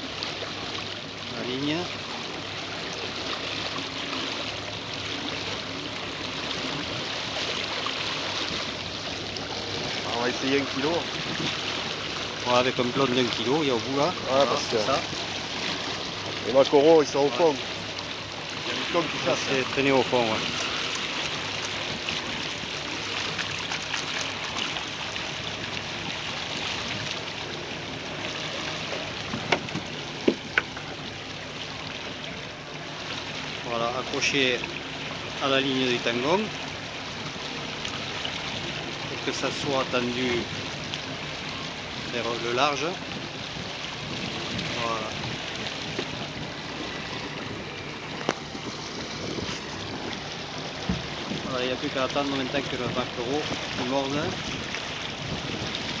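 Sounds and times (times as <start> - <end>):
water rushing along boat hull: 0.0 - 56.0.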